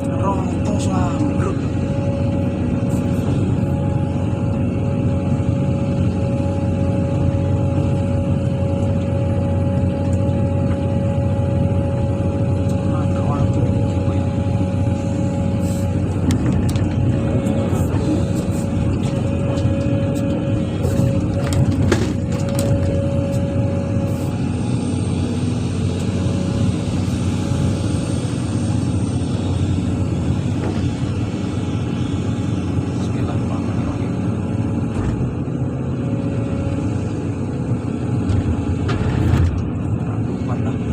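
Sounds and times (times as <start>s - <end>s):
constant whine: 0.0s - 40.9s
diesel engine rumbling: 0.0s - 40.9s.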